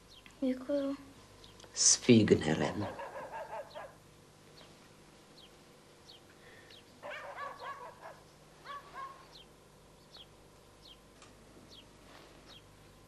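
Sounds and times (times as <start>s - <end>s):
bird chirping: 0.0s - 0.5s, 2.7s - 12.8s.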